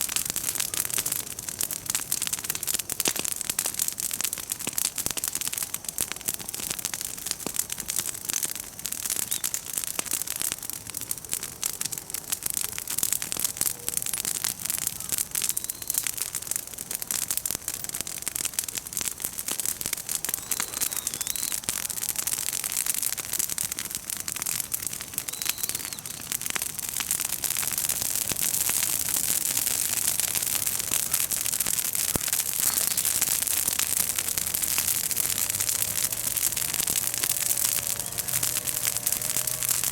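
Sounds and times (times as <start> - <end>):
bonfire crackling: 0.0 - 39.9.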